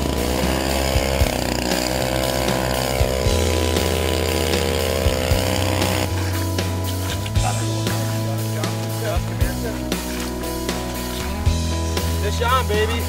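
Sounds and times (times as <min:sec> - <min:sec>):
background music: 0:00.0 - 0:13.0
ice auger engine revving: 0:00.0 - 0:13.0.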